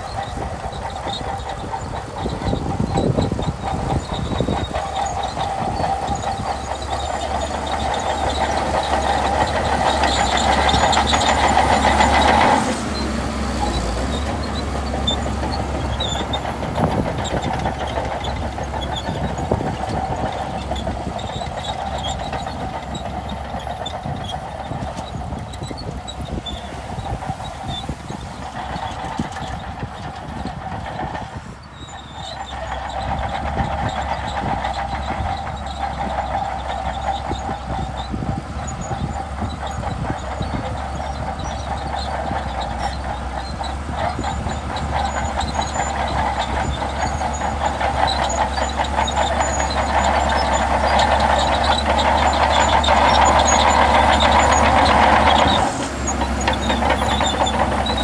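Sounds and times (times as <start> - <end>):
bulldozer diesel engine clanking: 0.0 - 58.0.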